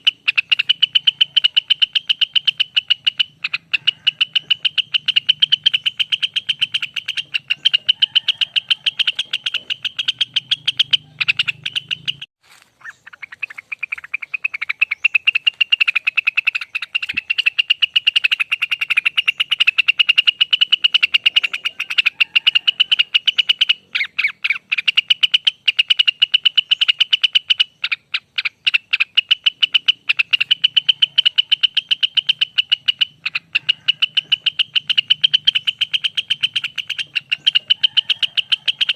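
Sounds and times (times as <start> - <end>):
bird singing a rapid trill: 0.0 - 38.9.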